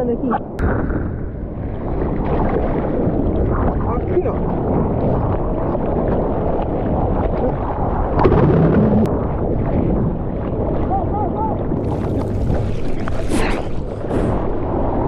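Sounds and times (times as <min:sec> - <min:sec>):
water sloshing and splashing: 0:01.3 - 0:15.0.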